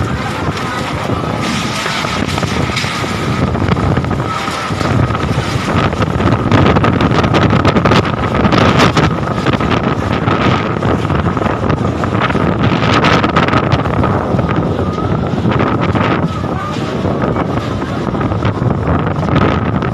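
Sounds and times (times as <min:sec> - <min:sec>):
strong gusty wind: 0:00.0 - 0:19.9
wind buffeting microphone: 0:00.0 - 0:19.9.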